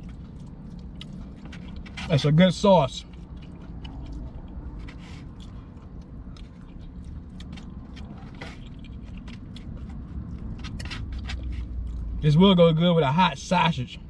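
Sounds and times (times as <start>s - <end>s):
person chewing: 0.0s - 2.1s, 3.0s - 12.2s.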